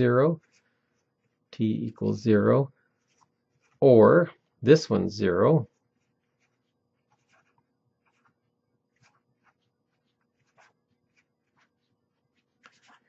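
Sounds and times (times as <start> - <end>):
marker scratching on paper: 0.0 - 1.5, 2.2 - 4.0, 5.7 - 13.0.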